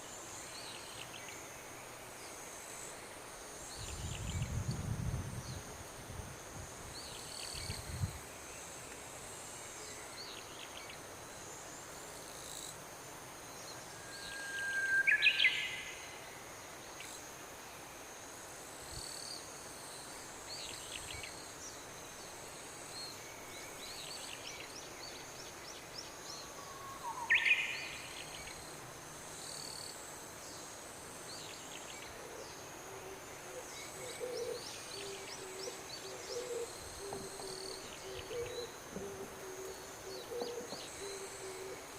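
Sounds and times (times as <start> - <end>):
high insect drone: 0.0 - 41.9.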